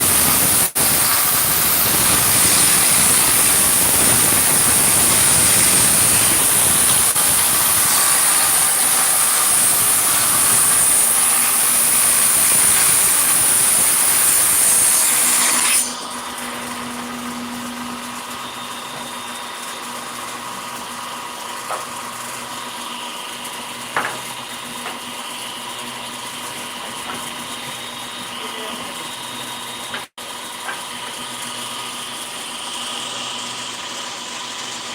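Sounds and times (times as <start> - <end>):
power tool whining: 0.0 - 34.9.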